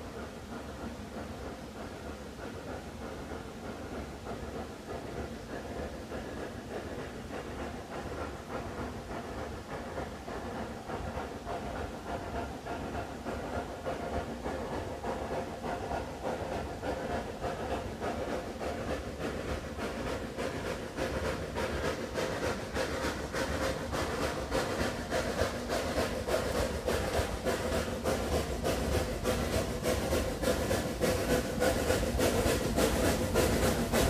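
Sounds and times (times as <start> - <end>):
steady hiss of steam: 0.0 - 34.0
steam locomotive exhaust beating: 0.0 - 34.0.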